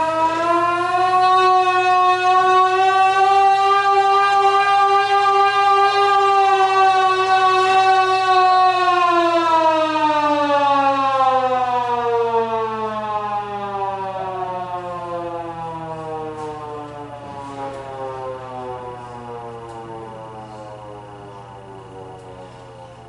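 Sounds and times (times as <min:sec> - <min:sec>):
air raid siren winding down: 0:00.0 - 0:23.0.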